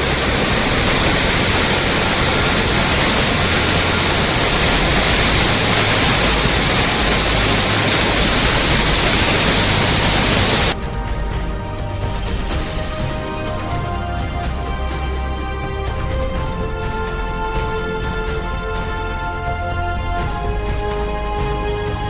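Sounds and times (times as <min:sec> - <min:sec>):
heavy water rushing: 0:00.0 - 0:22.0
music: 0:00.0 - 0:22.0.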